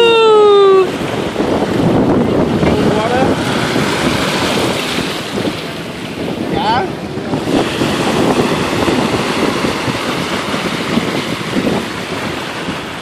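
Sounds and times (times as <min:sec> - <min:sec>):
surf washing over sand: 0:00.0 - 0:13.0
wind rumbling on microphone: 0:00.0 - 0:13.0.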